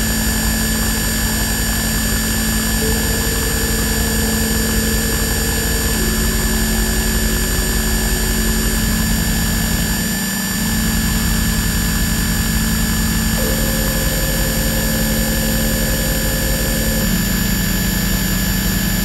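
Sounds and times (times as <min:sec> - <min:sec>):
electronic drone music: 0:00.0 - 0:19.0.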